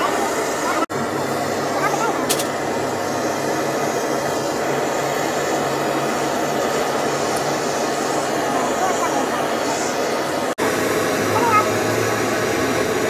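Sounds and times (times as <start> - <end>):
gas torch hissing: 0.0 - 13.0.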